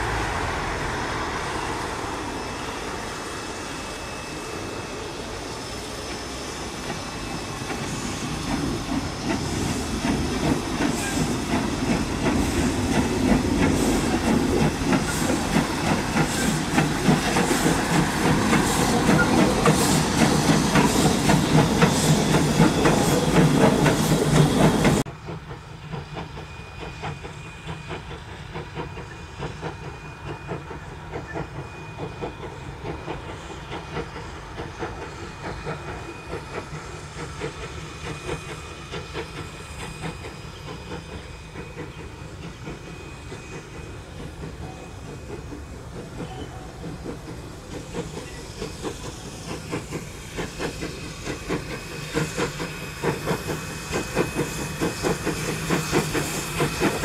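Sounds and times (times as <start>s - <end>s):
steam hiss: 0.0s - 57.0s
steam locomotive chuffing: 0.0s - 57.0s.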